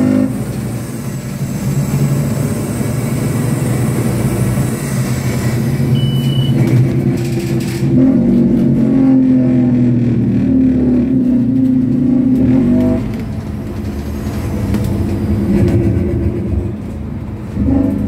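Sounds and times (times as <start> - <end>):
bus engine drone from inside: 0.0 - 18.0.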